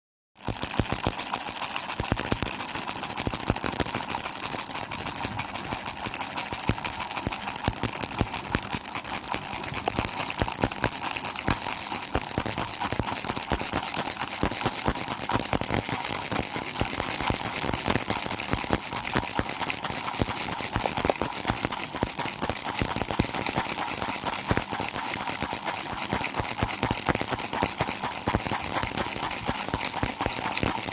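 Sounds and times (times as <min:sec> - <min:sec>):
toy rattle shaken: 0:00.4 - 0:30.9.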